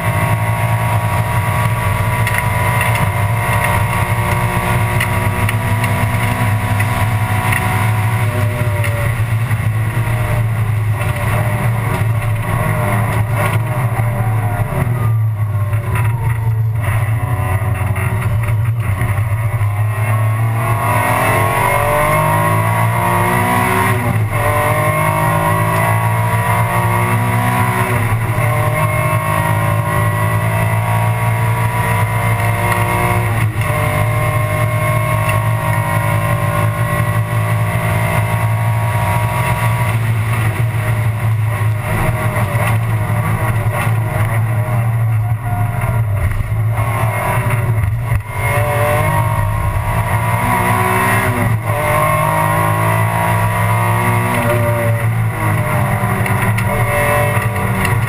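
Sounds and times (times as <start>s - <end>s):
race car engine revving: 0.0s - 58.0s
steady low drone: 0.0s - 58.0s.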